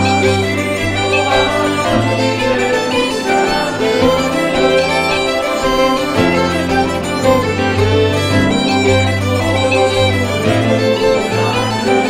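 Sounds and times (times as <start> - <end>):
fiddle playing a quick tune: 0.0 - 12.0
steady low drone: 0.0 - 12.0.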